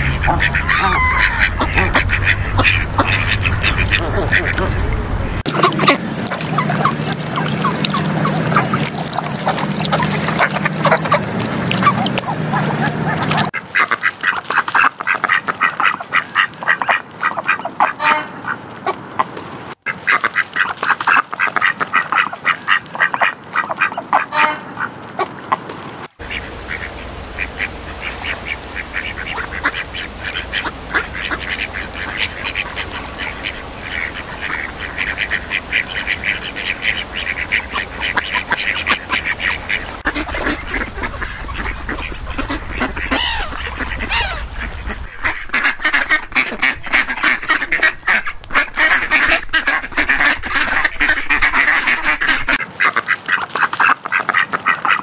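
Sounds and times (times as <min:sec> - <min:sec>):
ducks quacking: 0:00.0 - 0:55.0.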